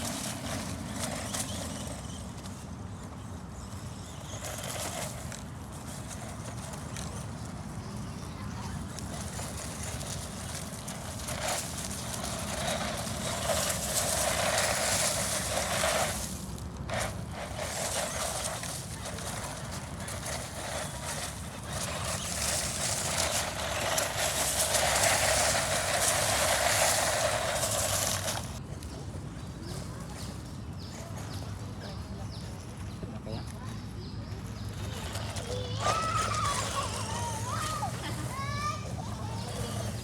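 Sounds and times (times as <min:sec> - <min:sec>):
rc car driving over rough ground: 0:00.0 - 0:40.0.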